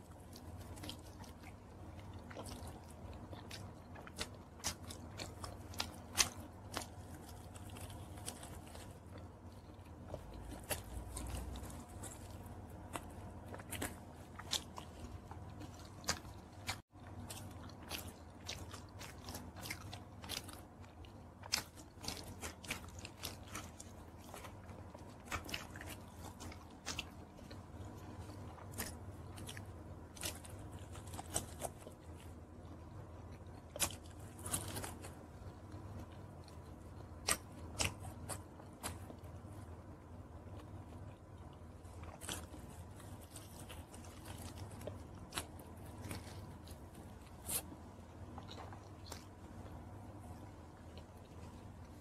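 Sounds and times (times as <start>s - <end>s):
crunchy chewing of fried chicken: 0.0s - 52.0s
faint steady hum: 0.0s - 52.0s.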